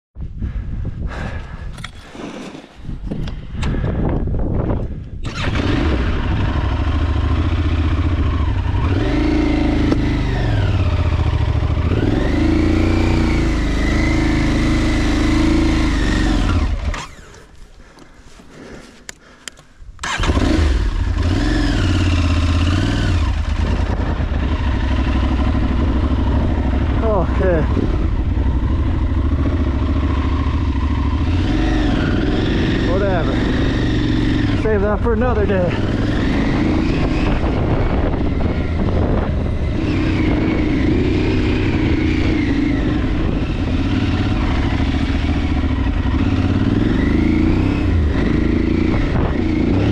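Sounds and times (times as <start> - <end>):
motorcycle engine revving: 4.8 - 17.5, 20.0 - 49.9.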